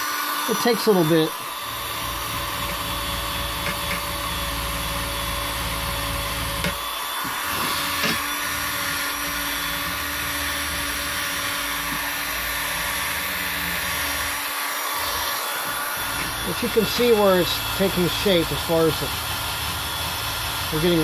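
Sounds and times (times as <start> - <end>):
buffing wheel humming: 0.0 - 21.0.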